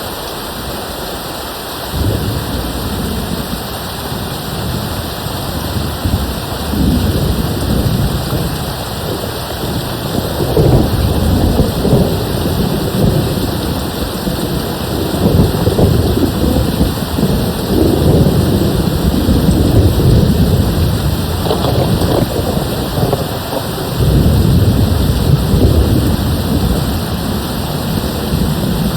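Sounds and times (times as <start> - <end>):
rain falling: 0.0 - 28.9
distant thunder rumbling: 1.9 - 28.9.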